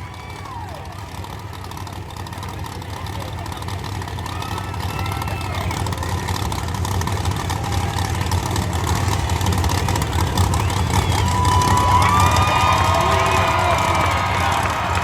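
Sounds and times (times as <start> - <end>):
truck engine deep rumble: 0.0 - 15.0.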